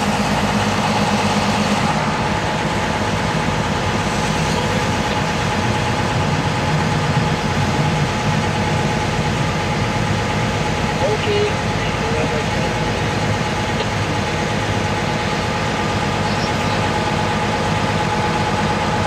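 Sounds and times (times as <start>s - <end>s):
ferry engine droning: 0.0s - 19.0s.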